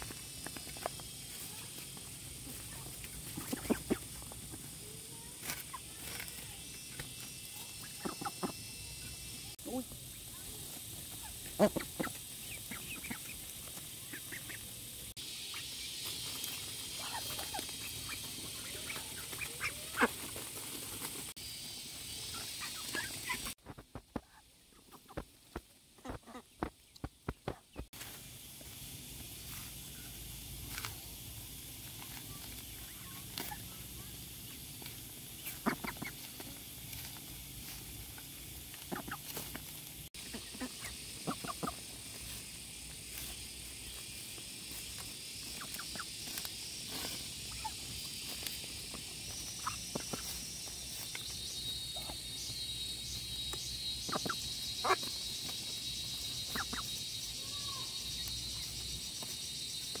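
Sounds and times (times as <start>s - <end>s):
insects shrilling: 0.0s - 60.0s.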